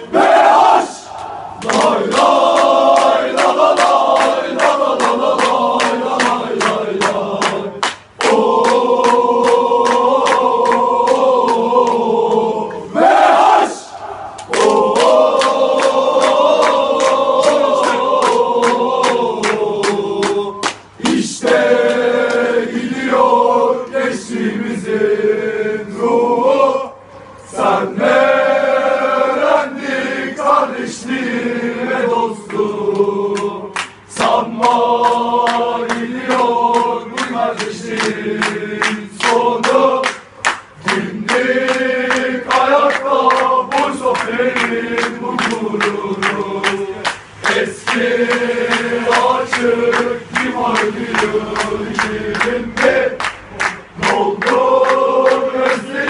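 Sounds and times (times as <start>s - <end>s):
men chanting in unison: 0.0s - 56.0s.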